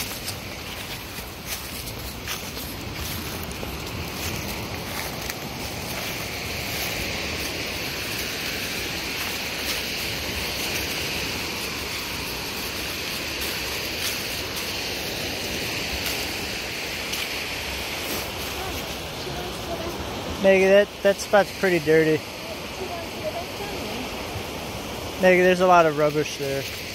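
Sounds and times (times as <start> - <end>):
lake waves washing onto shore: 0.0 - 26.9.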